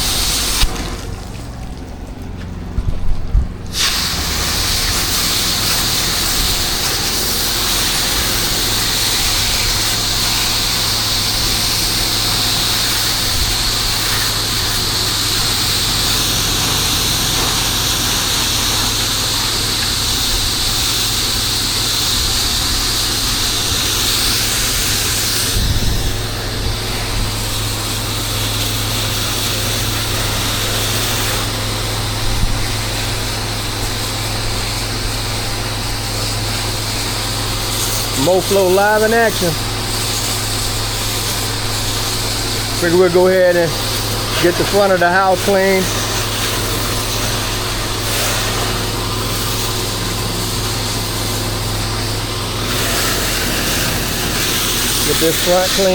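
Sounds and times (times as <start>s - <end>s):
high-pressure spray hissing: 0.0s - 1.1s, 3.6s - 55.9s
pressure washer engine running: 0.0s - 55.9s.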